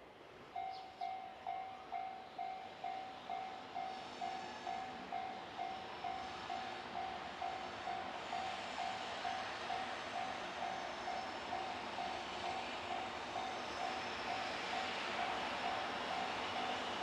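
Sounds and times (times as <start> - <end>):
level crossing warning bell: 0.6 - 17.0.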